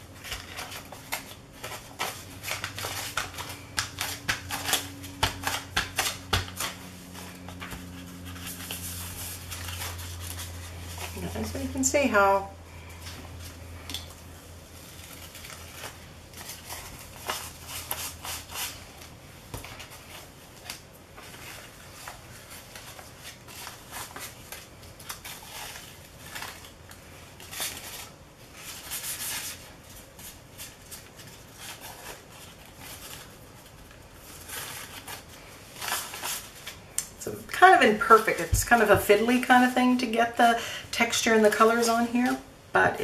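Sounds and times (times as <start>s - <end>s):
paper rustling and crinkling: 0.0s - 12.1s, 12.8s - 39.7s.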